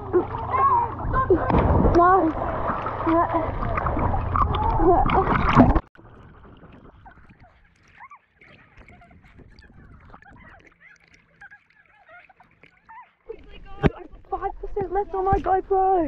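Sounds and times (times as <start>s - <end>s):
water splashing and churning: 0.0s - 16.0s.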